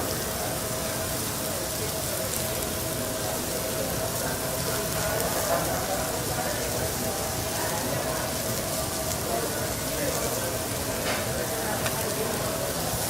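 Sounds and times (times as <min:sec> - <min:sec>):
faint talk: 0:00.0 - 0:13.0
food sizzling on a griddle: 0:00.0 - 0:13.0.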